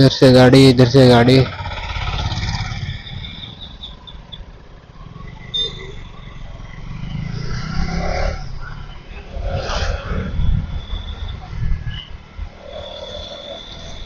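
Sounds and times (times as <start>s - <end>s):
vehicle engines and road noise: 0.0s - 14.0s
vehicle passing: 0.9s - 14.0s.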